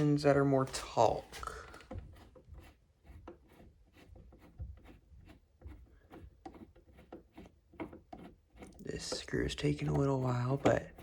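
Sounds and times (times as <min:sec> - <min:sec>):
screwdriver scraping and clicking: 0:00.0 - 0:11.0.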